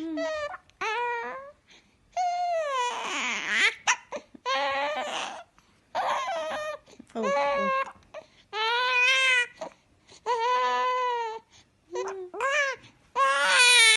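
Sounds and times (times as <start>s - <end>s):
baby crying: 2.2s - 11.4s, 12.0s - 13.9s.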